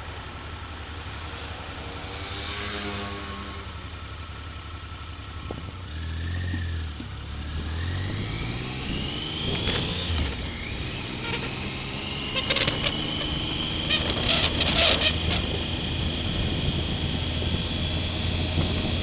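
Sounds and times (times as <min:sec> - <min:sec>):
motorcycle engine accelerating: 0:00.9 - 0:19.0.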